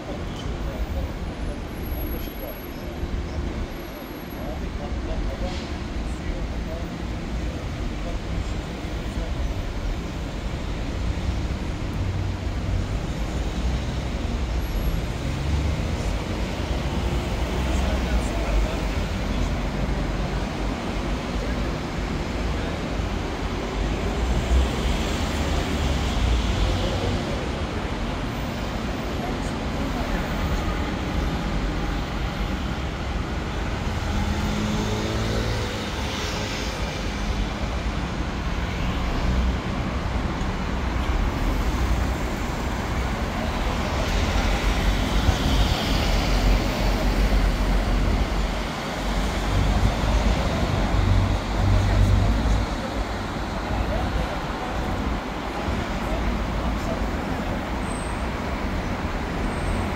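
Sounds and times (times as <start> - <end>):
traffic rumble: 0.0 - 59.9
vehicles passing: 0.0 - 59.9.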